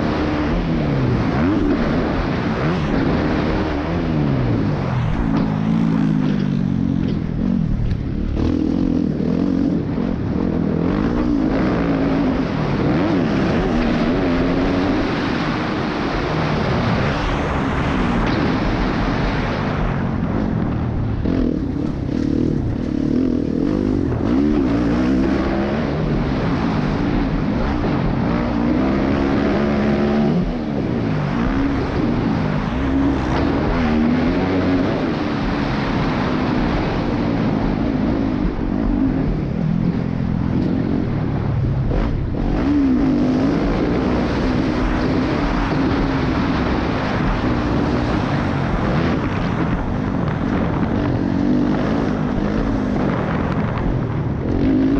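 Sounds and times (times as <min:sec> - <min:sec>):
dirt bike engine revving: 0:00.0 - 0:54.9
wind and ground noise: 0:00.0 - 0:54.9.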